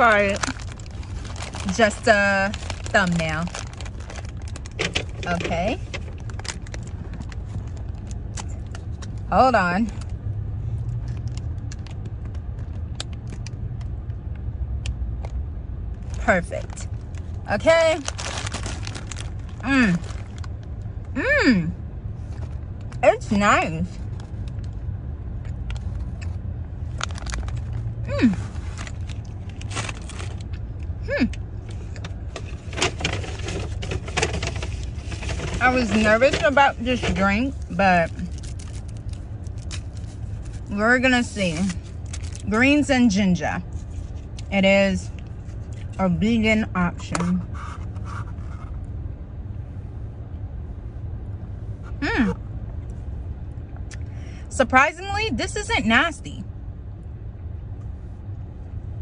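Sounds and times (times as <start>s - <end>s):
car idling inside cabin: 0.0s - 59.0s.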